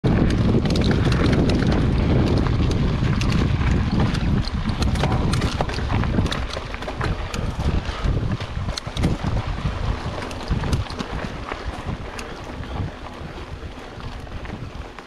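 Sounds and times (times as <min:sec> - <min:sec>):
bike clicking and rattling: 0:00.0 - 0:15.0
wind rumbling on microphone: 0:00.0 - 0:15.0.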